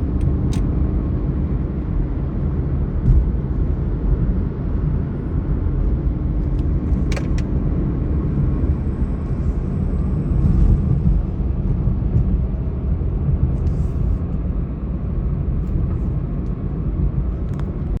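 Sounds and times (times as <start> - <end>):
road and wind noise: 0.0 - 18.0
vehicle travelling rumble: 0.0 - 18.0.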